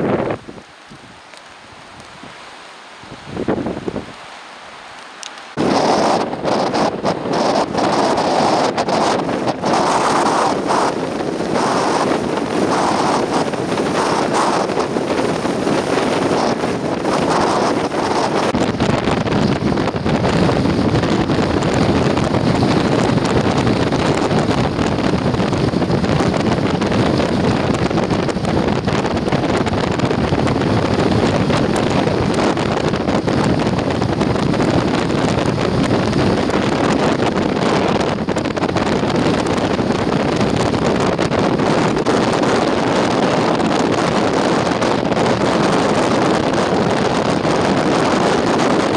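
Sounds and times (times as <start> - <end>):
strong wind buffeting microphone: 0.0 - 4.4, 5.4 - 48.9.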